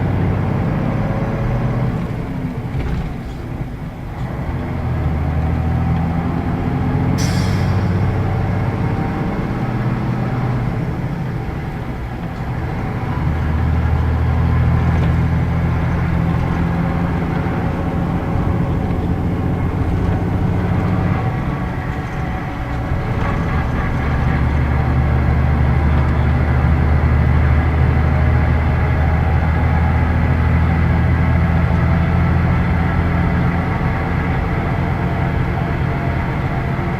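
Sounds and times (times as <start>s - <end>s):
diesel bus engine running: 0.0s - 36.9s.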